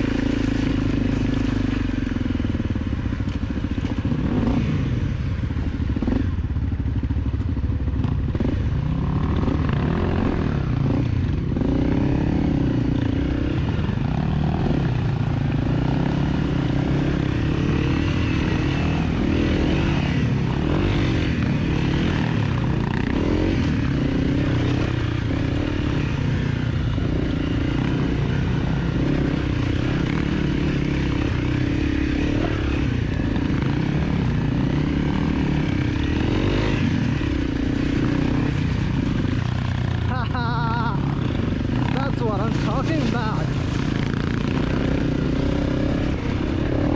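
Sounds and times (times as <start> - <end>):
dirt bike engine revving: 3.9 - 6.4, 8.0 - 46.9.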